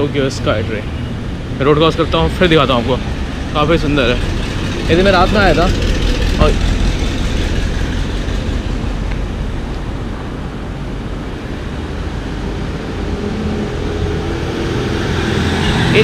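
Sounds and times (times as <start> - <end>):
road traffic rumble: 0.0 - 16.0
heavy engine approaching: 1.7 - 16.0.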